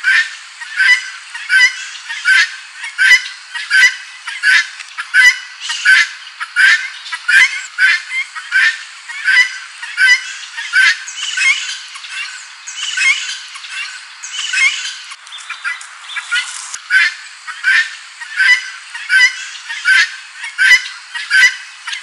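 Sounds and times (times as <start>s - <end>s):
guineafowl calling: 0.0s - 22.0s
harsh rasping bird calls: 0.0s - 22.0s.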